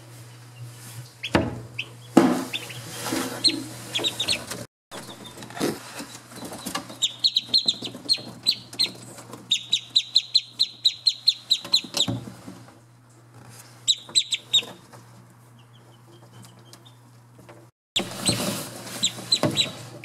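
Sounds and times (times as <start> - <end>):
ducklings peeping: 0.5 - 12.2, 13.8 - 17.1, 18.0 - 20.0.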